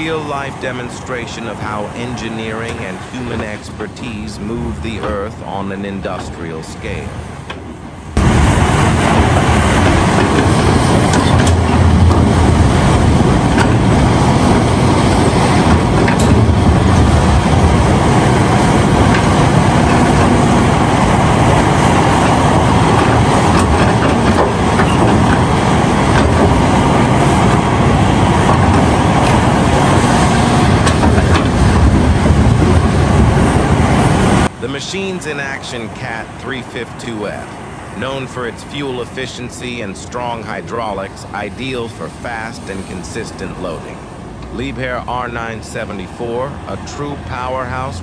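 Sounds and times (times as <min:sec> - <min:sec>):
excavator engine and hydraulics: 0:00.0 - 0:48.0.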